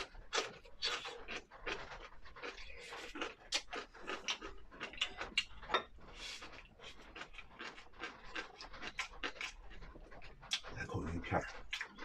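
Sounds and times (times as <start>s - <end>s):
person chewing crunchy radish: 0.0s - 12.0s.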